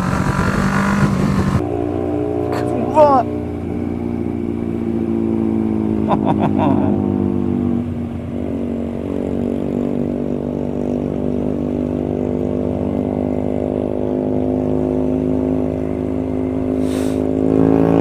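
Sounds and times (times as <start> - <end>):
motorcycle engine running: 0.0 - 18.0
wind and road rush: 0.0 - 18.0.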